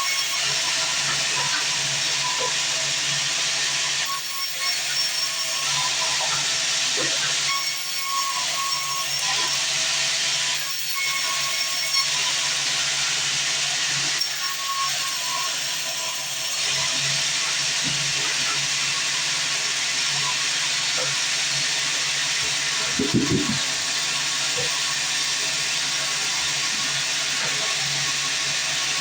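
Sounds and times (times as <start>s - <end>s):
band saw cutting wood: 0.0s - 29.0s.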